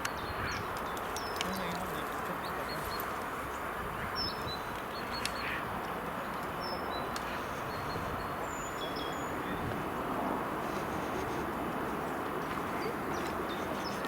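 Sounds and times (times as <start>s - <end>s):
wind rushing while cycling: 0.0s - 14.0s.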